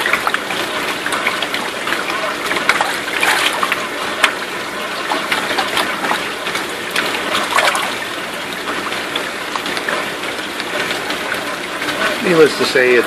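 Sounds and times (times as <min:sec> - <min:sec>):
fish splashing: 0:00.0 - 0:12.3
water running in tank: 0:00.0 - 0:13.0.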